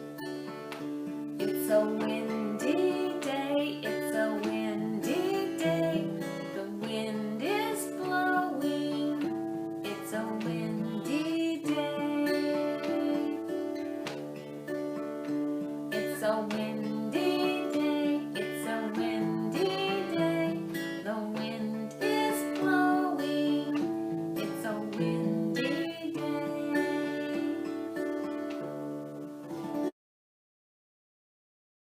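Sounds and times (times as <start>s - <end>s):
acoustic guitar music: 0.0s - 29.9s.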